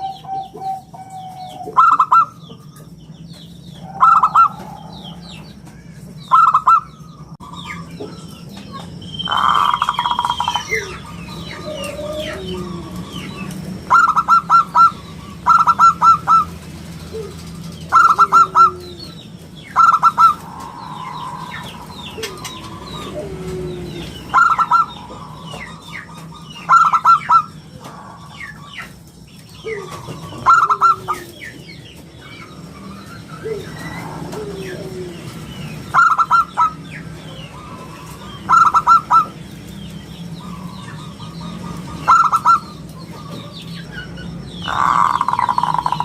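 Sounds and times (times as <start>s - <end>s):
dove cooing: 0.0s - 2.8s, 3.7s - 29.0s, 29.6s - 31.9s, 32.8s - 39.5s, 40.4s - 46.0s
small birds chirping: 0.0s - 46.0s.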